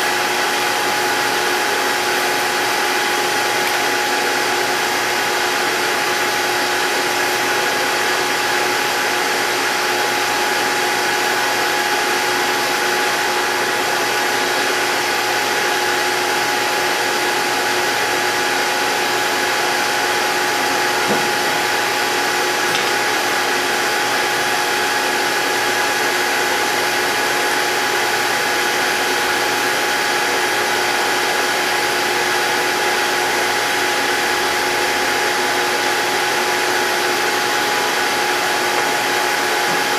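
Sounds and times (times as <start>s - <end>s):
hydraulic pump whining: 0.0s - 28.4s, 32.4s - 39.9s.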